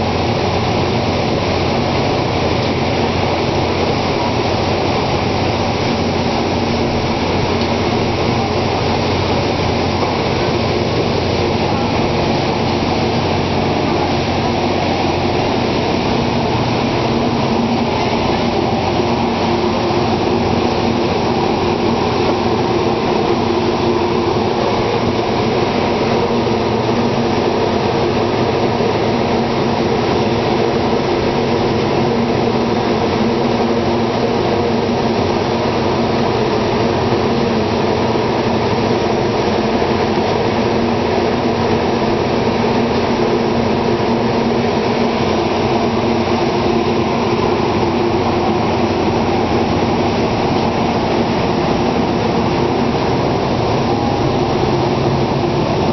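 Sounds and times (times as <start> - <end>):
engine room machinery drone: 0.0 - 55.9.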